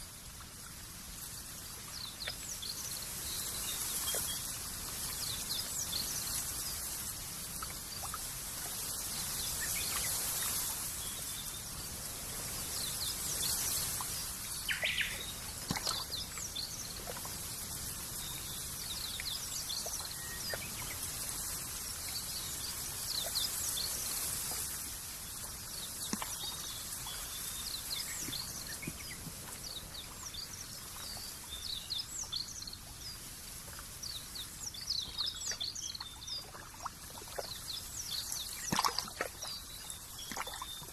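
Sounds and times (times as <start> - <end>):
steady background hiss: 0.0 - 38.8
small birds chirping: 1.3 - 40.9.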